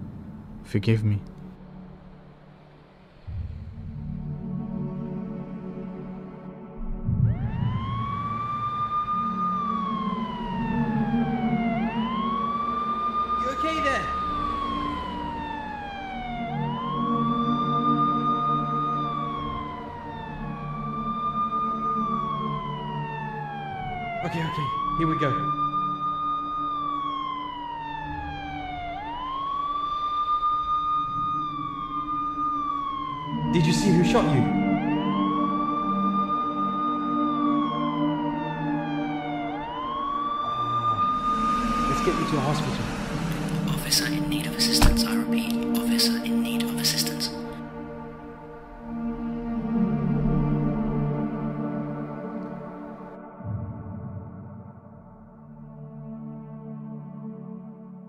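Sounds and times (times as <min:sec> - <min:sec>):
emergency siren wailing: 0:03.3 - 0:58.0.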